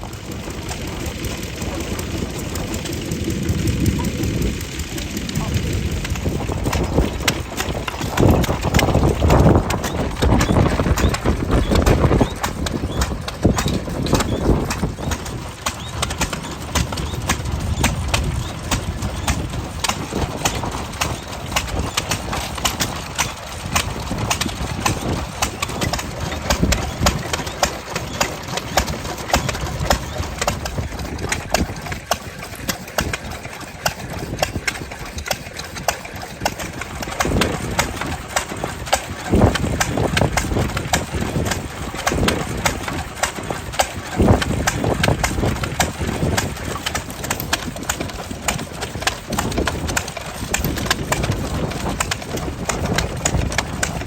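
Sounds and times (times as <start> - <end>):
stationary engines clattering: 0.0 - 54.0.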